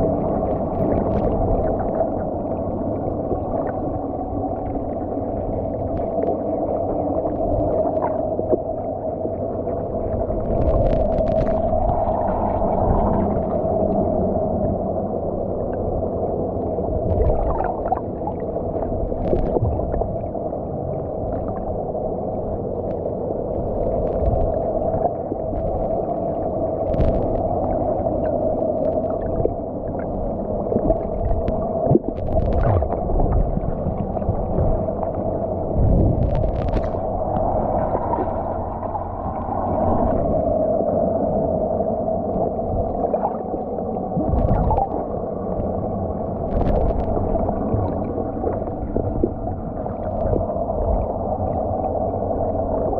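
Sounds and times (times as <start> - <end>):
muffled underwater drone: 0.0 - 52.9.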